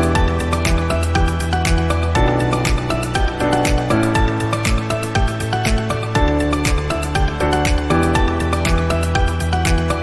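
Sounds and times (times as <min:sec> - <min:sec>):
electronic music with synth chords: 0:00.0 - 0:10.0.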